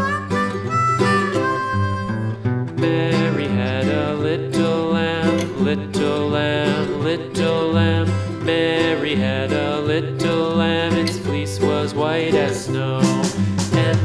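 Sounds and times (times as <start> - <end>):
harmonica melody: 0.0 - 14.0
picked acoustic guitar: 0.0 - 14.0.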